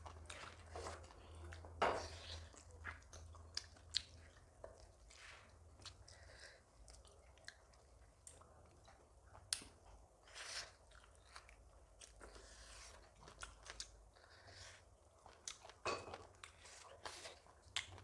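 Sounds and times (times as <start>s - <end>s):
chewing and mouth clicks: 0.0s - 10.0s, 10.7s - 14.3s, 15.2s - 18.0s.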